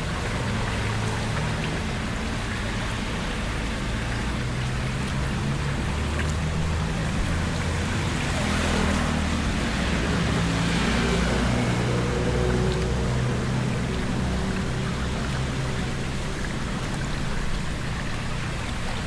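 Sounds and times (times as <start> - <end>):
low engine hum: 0.0 - 19.0
rushing floodwater: 0.0 - 19.0.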